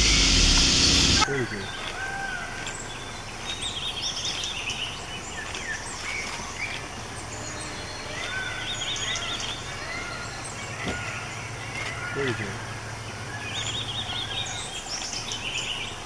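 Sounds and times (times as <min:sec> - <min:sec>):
rapid bird trilling: 0:00.0 - 0:16.0
steady low hum: 0:00.0 - 0:16.0.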